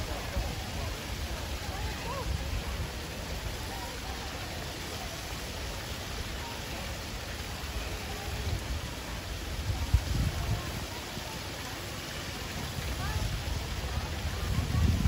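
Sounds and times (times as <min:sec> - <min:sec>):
faint distant voices: 0:00.0 - 0:15.0
rushing outdoor noise: 0:00.0 - 0:15.0.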